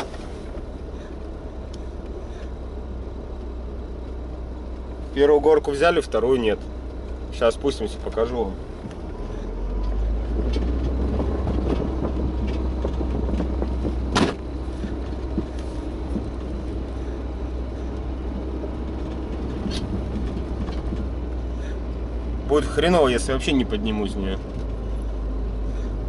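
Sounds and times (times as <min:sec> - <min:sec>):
car engine running: 0:00.0 - 0:26.0
tyres rumbling over snow: 0:00.0 - 0:26.0.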